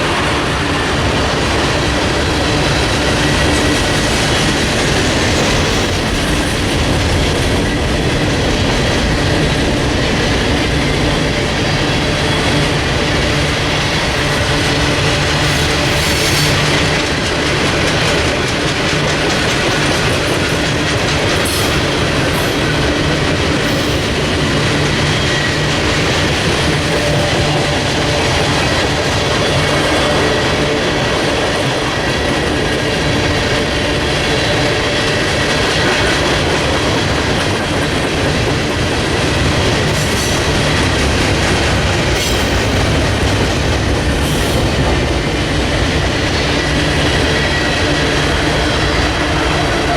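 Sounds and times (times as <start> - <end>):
train cars rolling past: 0.0 - 49.9.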